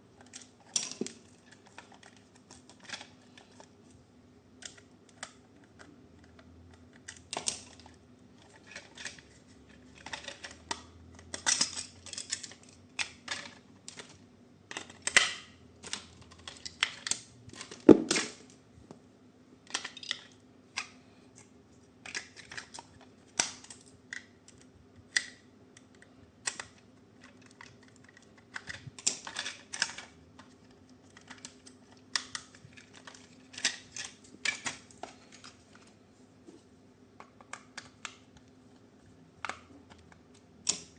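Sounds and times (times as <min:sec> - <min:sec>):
faint steady hum: 0:00.0 - 0:40.9
hands handling plastic toy parts: 0:00.2 - 0:04.0, 0:04.6 - 0:18.6, 0:19.7 - 0:40.9.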